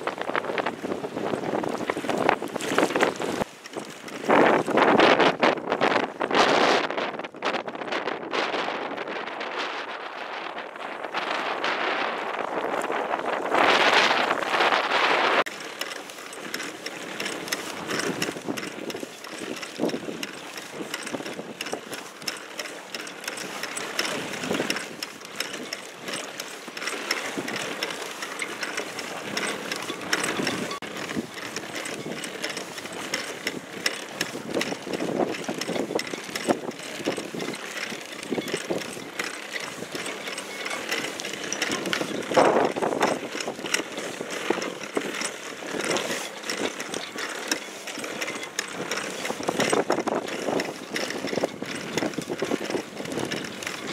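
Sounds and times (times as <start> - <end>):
wind buffeting microphone: 0.0 - 15.6, 16.4 - 26.4, 27.0 - 53.9
water splashing against boat hull: 0.0 - 53.9.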